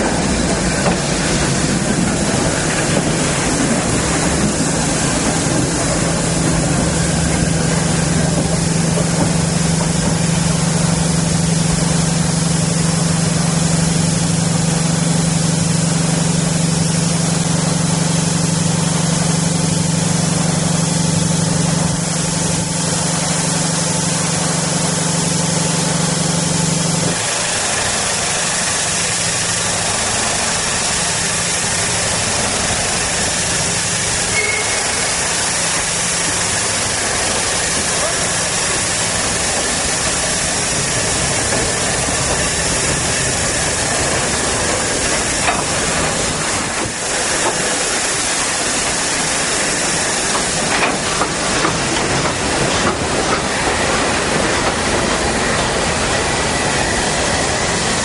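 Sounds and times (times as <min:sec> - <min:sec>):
low engine hum: 0:00.0 - 0:58.0
steam hissing: 0:00.0 - 0:58.0.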